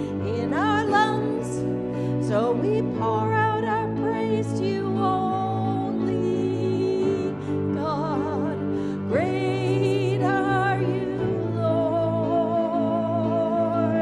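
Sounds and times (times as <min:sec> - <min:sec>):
digital piano chords: 0:00.0 - 0:14.0.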